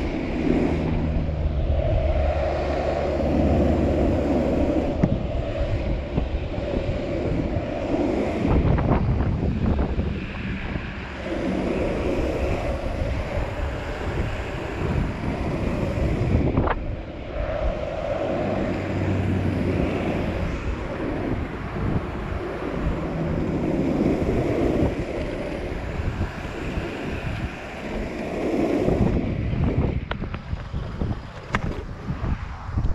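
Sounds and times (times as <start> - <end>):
skateboard wheels rolling on asphalt: 0.0 - 32.9
wind on microphone: 0.0 - 32.9.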